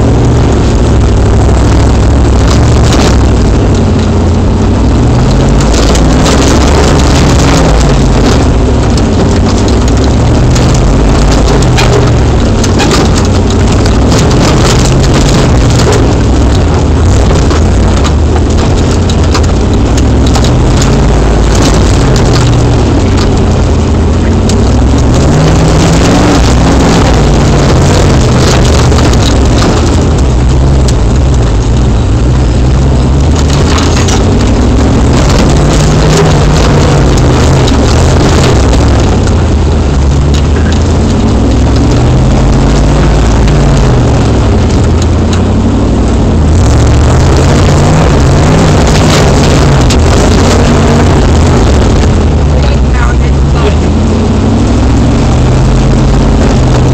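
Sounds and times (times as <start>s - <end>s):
vehicle body rattling and knocking: 0.0s - 56.9s
vehicle engine revving: 0.0s - 56.9s.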